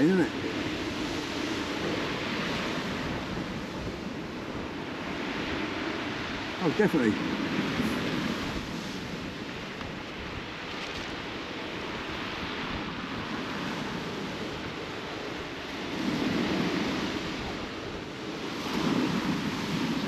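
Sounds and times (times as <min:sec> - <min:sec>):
sea surf on shingle beach: 0:00.0 - 0:20.0
wind blowing on microphone: 0:00.0 - 0:20.0.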